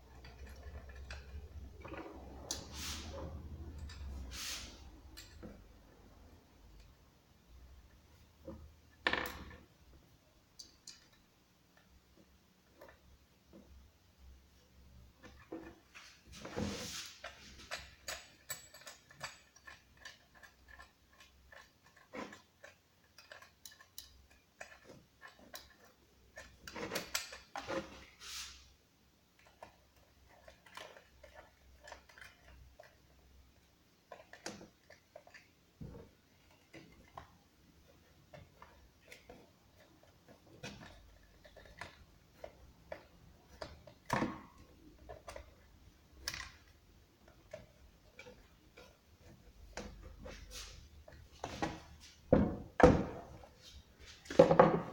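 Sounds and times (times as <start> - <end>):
parts clicking and knocking: 0.0 - 28.2, 29.2 - 54.9.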